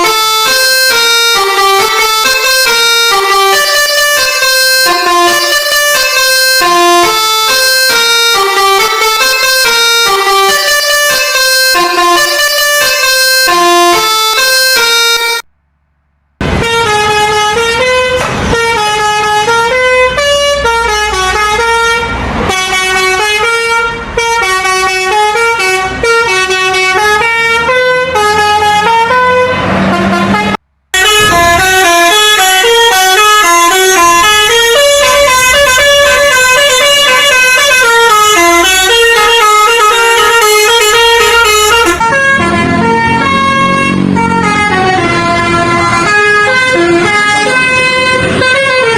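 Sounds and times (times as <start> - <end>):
bus air horns playing melodies: 0.0 - 15.5, 16.4 - 48.9.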